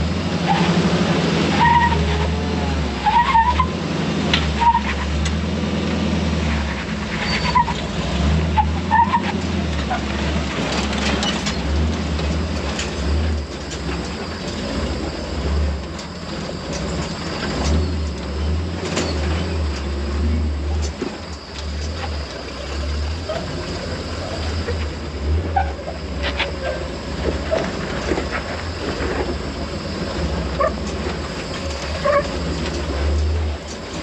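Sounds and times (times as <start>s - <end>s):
truck engine running slowly: 0.0s - 34.0s
short squeaks: 1.5s - 3.8s, 6.6s - 34.0s.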